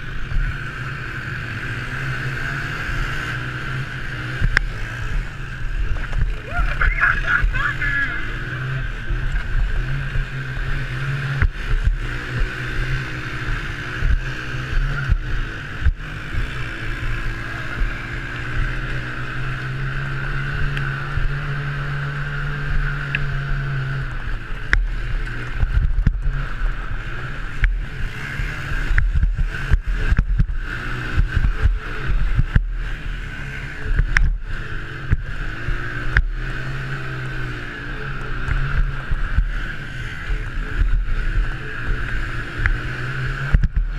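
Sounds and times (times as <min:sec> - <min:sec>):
quad engine revving: 0:00.0 - 0:43.9.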